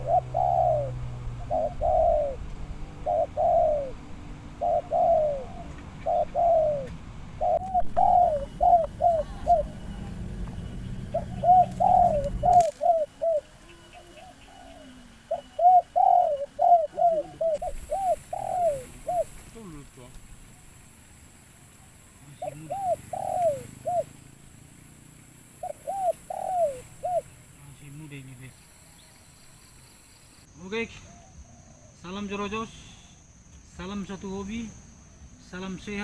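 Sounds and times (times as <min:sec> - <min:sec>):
doves cooing: 0:00.0 - 0:30.4, 0:31.0 - 0:32.0.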